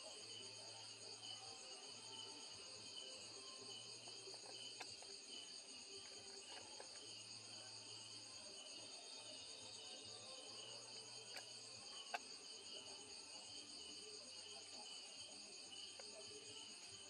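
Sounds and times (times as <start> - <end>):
crickets and insects trilling: 0.2 - 17.0.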